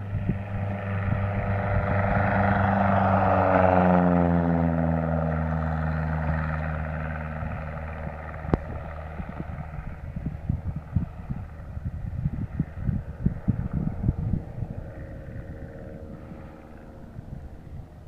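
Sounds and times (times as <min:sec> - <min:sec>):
light aircraft engine drone: 0:00.0 - 0:18.0
wind buffeting microphone: 0:00.0 - 0:18.0.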